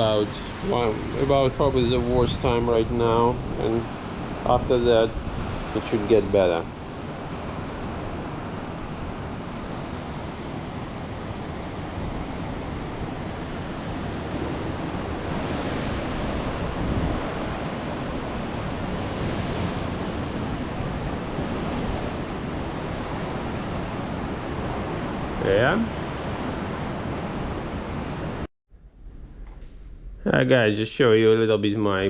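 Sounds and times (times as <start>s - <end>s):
strong wind blowing: 0.0s - 28.5s.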